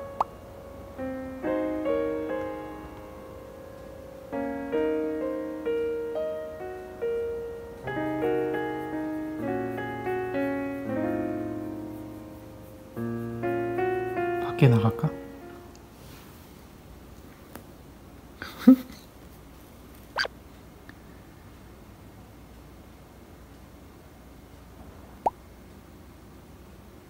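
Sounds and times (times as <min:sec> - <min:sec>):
light piano melody: 0:00.0 - 0:25.4.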